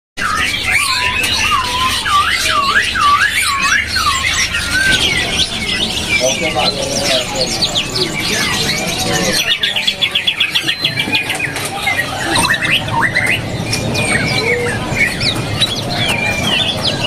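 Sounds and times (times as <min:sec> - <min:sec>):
songbirds chirping and whistling: 0:00.2 - 0:17.0.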